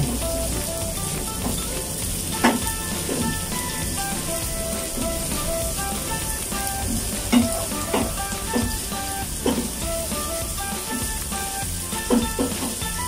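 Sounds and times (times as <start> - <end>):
light melodic background music: 0.0 - 13.0
vegetables sizzling in frying pan: 0.0 - 13.0.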